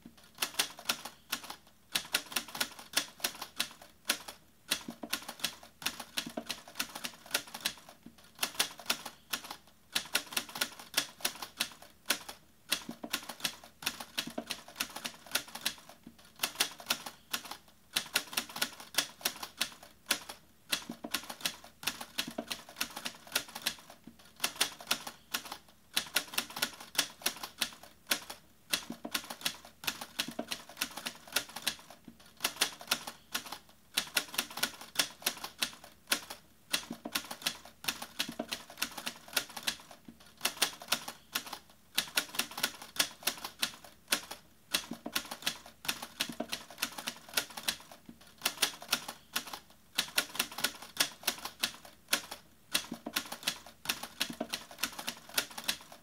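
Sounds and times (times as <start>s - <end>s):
typewriter keys clacking: 0.3s - 56.0s.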